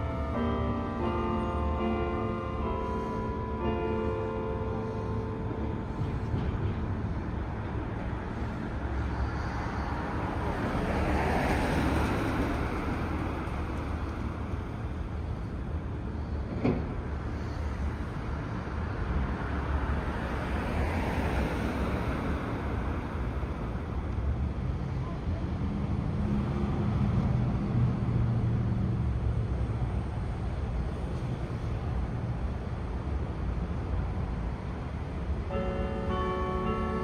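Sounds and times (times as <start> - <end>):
hiss of passing vehicles: 0.0 - 37.0.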